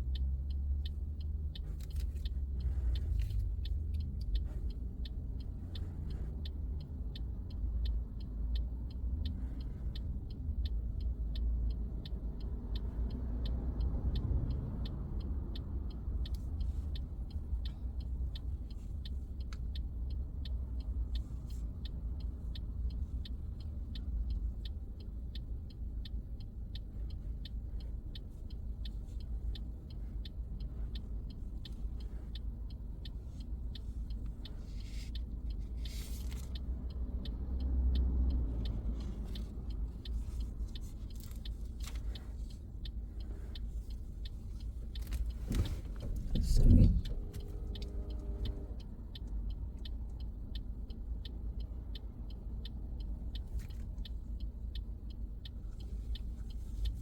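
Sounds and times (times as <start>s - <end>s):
car cabin road noise: 0.0s - 57.0s
turn signal ticking: 0.0s - 57.0s.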